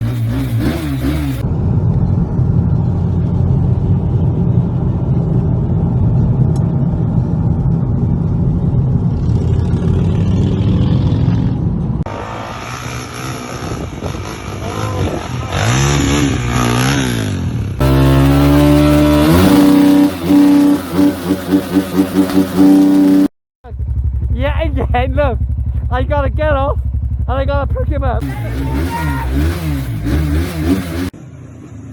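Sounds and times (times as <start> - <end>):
motorcycle engines revving: 0.0 - 3.8, 8.9 - 31.9.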